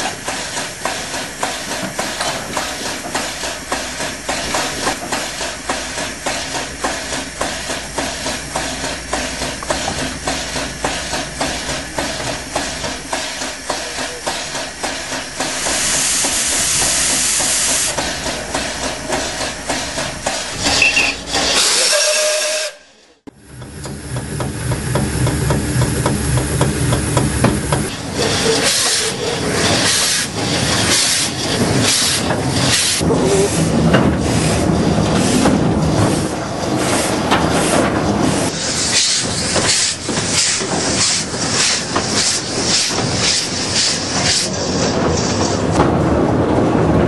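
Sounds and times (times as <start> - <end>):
steam venting loudly: 0.0 - 22.7, 27.9 - 45.4
steam hissing: 0.0 - 22.8, 26.1 - 45.7
steam locomotive exhaust beating: 0.0 - 47.0.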